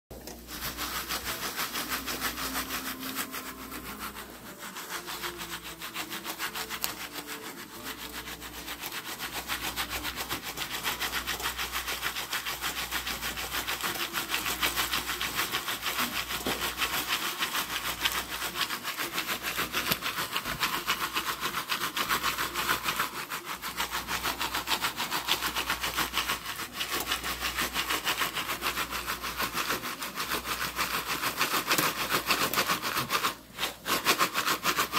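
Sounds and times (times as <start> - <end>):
pan scraping over burner coil: 0.1 - 34.9.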